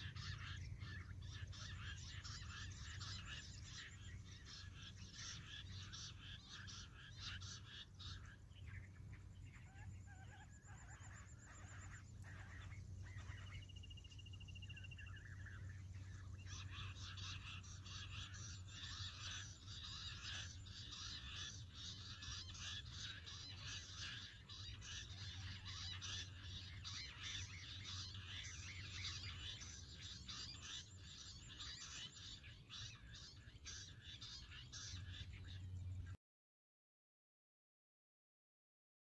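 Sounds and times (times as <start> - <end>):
quail calling chorus: 0.0 - 36.2
steady low hum: 0.0 - 36.2.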